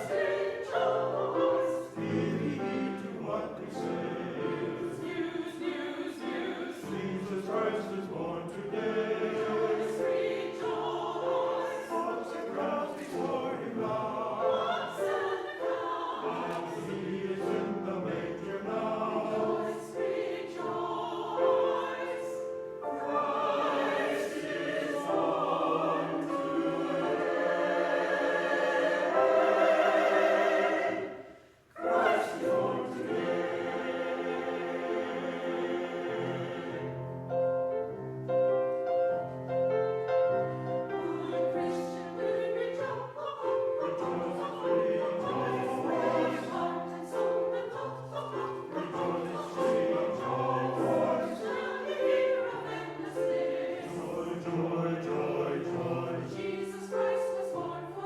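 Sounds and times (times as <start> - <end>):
choir singing a choral piece: 0.0 - 58.0.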